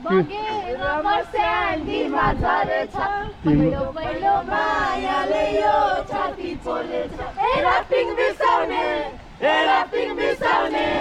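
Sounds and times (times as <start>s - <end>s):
group singing unaccompanied: 0.1s - 11.0s.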